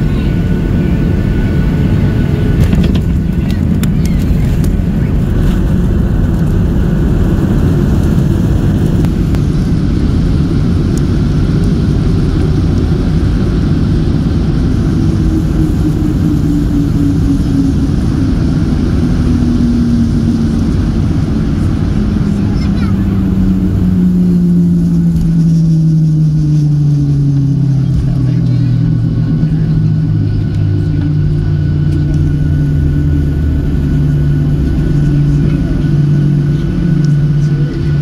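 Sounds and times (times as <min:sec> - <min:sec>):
airplane cabin roar: 0:00.0 - 0:38.0
jet engines winding down: 0:00.0 - 0:38.0.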